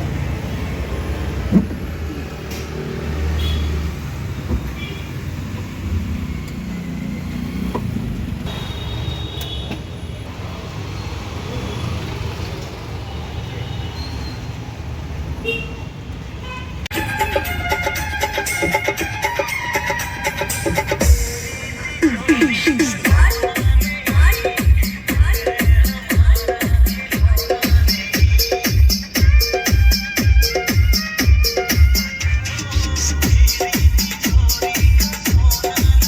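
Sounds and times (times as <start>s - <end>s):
road traffic engine rumble: 0.0s - 9.0s, 9.7s - 36.0s.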